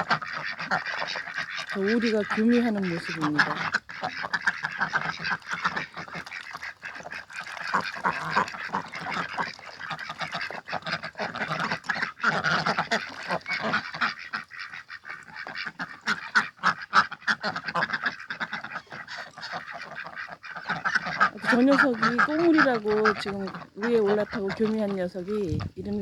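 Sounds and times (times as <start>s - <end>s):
ducks quacking and honking: 0.0s - 26.0s.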